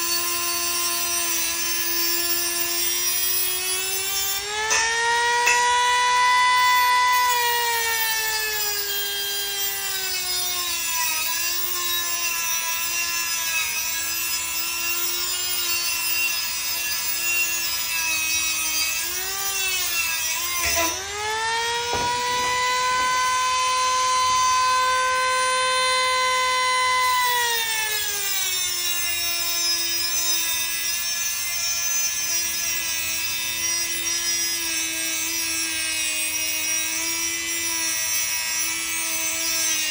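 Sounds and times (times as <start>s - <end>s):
rotary tool grinding metal: 0.0s - 39.9s.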